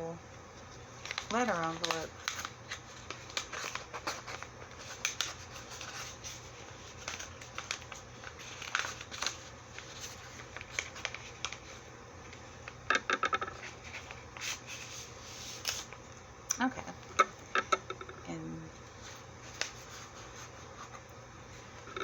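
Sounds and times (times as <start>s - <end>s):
paper envelope rustling: 0.6s - 16.1s, 18.9s - 22.0s
envelope being opened: 0.9s - 16.0s, 18.9s - 22.0s.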